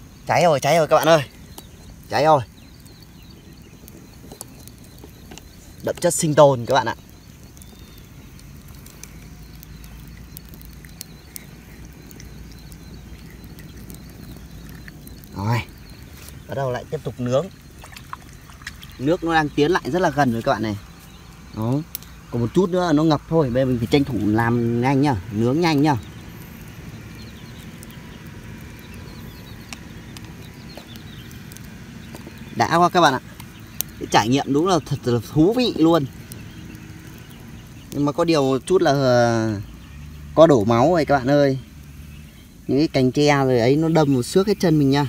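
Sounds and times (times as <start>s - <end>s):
campfire crackling and popping: 0.0s - 45.0s
low outdoor rumble: 0.0s - 45.0s.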